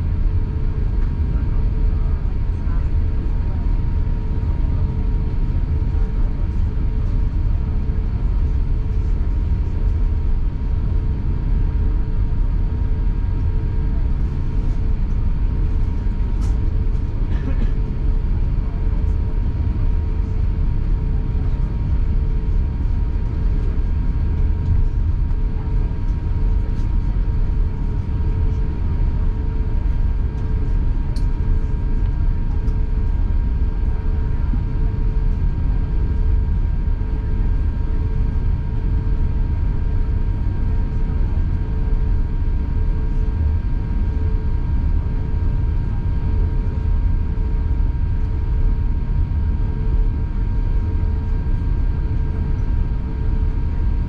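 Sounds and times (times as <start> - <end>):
aircraft cabin rumble and whine: 0.0 - 54.0.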